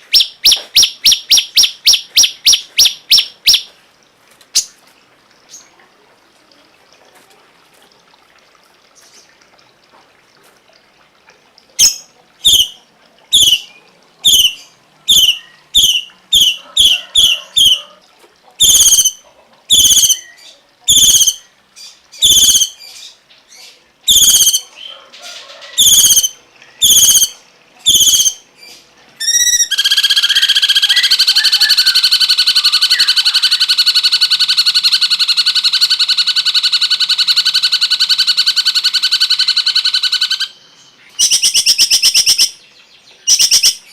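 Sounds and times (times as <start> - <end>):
songbird calling: 0.0 - 3.7, 11.8 - 18.0, 18.6 - 43.9
rapid continuous bird trill: 0.0 - 5.8, 11.8 - 43.9.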